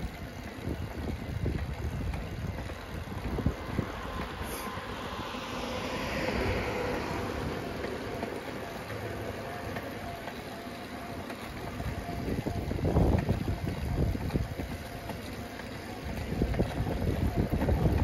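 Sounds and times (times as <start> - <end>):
wind buffeting microphone: 0.0 - 9.4, 11.4 - 18.0.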